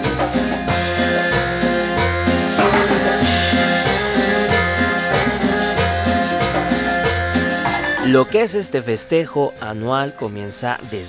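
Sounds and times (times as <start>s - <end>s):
live band playing latin dance music: 0.0s - 10.1s.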